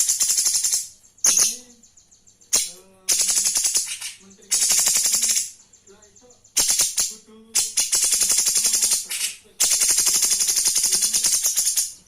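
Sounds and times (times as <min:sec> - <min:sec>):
songbird singing rattling trills: 0:00.0 - 0:12.0.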